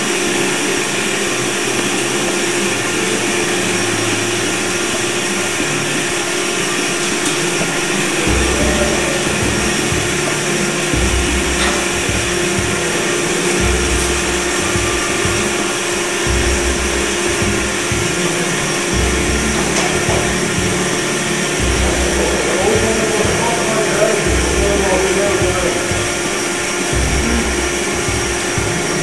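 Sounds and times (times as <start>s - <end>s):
band saw whirring: 0.0s - 29.0s.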